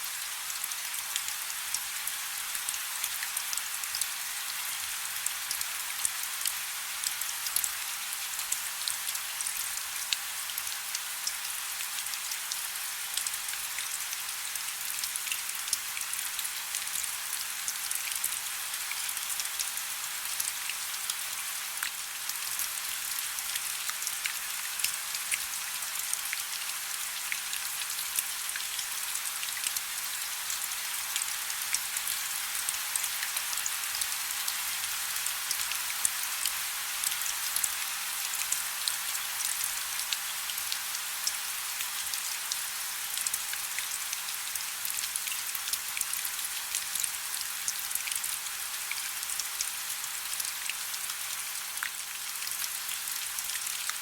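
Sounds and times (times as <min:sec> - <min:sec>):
soft steady rain: 0:00.0 - 0:54.0.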